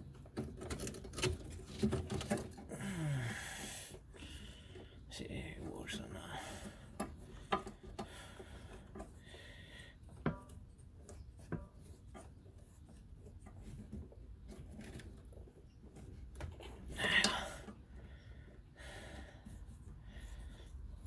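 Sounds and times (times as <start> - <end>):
rubber hoses clicking and knocking: 0.0 - 5.0, 6.4 - 21.0.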